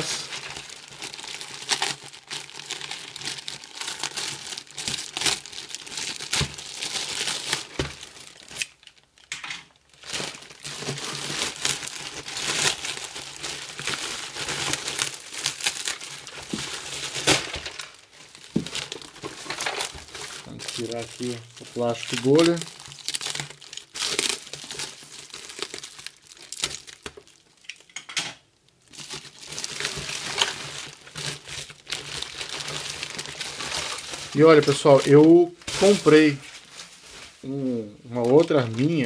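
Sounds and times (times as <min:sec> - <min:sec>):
plastic and bubble wrap crinkling: 0:00.0 - 0:28.0, 0:28.6 - 0:39.0.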